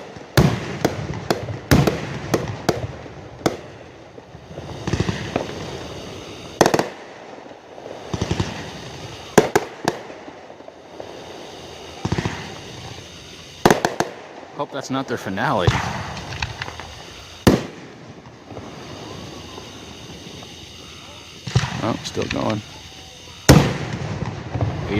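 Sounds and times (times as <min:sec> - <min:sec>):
firework shells bursting: 0:00.0 - 0:24.9
fireworks crackling: 0:00.0 - 0:24.9.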